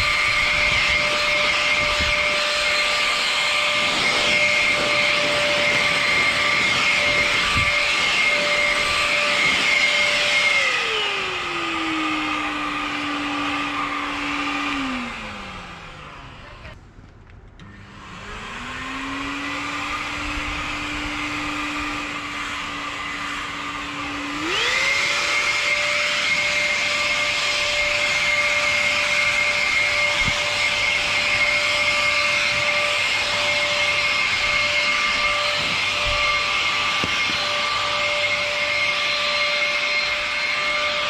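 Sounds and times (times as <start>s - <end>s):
leaf blower motor whine: 0.0s - 16.8s, 17.6s - 41.0s.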